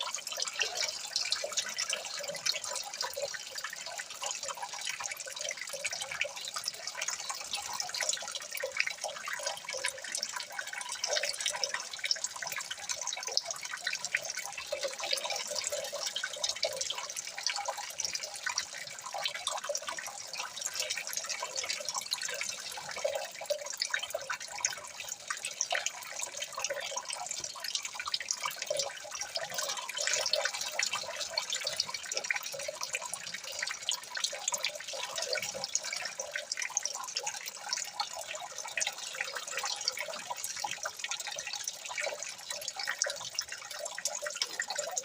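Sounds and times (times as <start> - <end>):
water trickling and dripping: 0.0 - 45.0.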